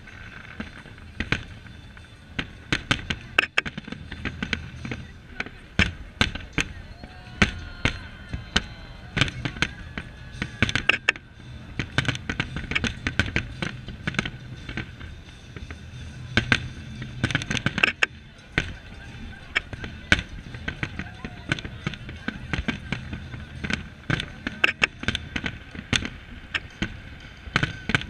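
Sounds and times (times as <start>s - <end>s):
fireworks bursting: 0.0s - 28.0s
low rumble: 0.0s - 28.0s.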